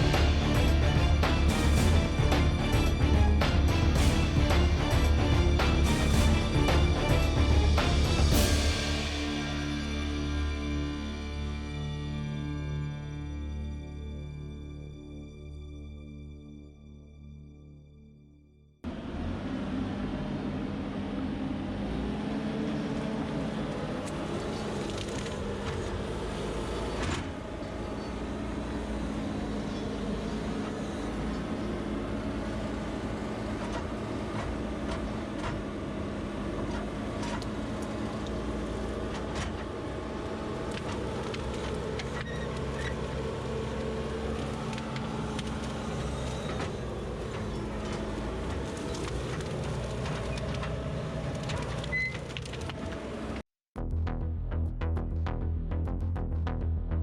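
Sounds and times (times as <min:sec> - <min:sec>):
heavy machine engine running: 0:00.0 - 0:12.0, 0:18.9 - 0:53.4.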